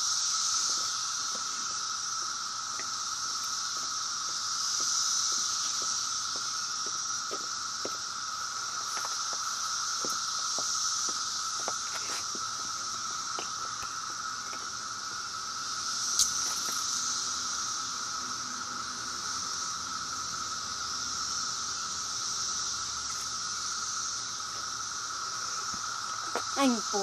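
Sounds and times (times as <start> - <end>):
cicadas droning: 0.0 - 27.0.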